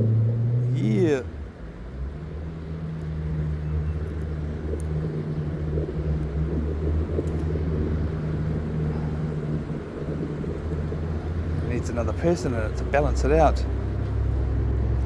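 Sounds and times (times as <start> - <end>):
boat engine idling: 0.7 - 15.0.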